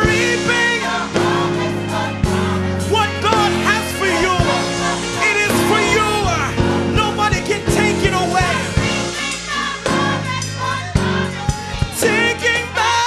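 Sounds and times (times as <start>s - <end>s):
band playing church music: 0.0s - 13.0s
voices singing: 0.0s - 13.0s.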